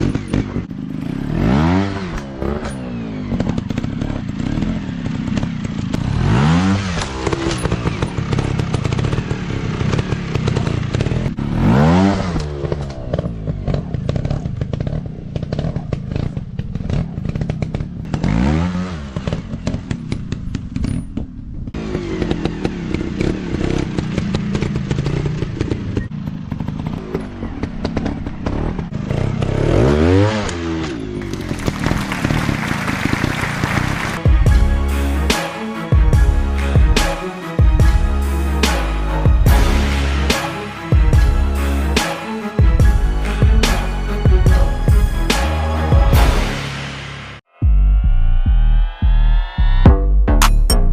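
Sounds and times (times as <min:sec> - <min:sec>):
dirt bike engine revving: 0:00.0 - 0:21.2, 0:21.8 - 0:48.1.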